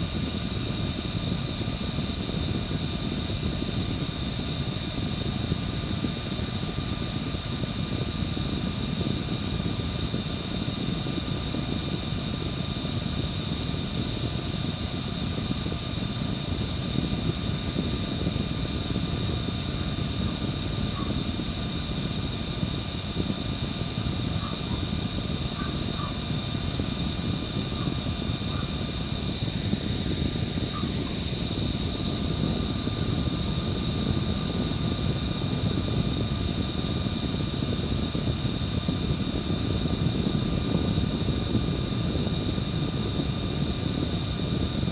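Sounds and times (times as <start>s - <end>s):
electric fan blades whooshing: 0.0s - 44.9s
high-pitched motor whine: 0.0s - 44.9s.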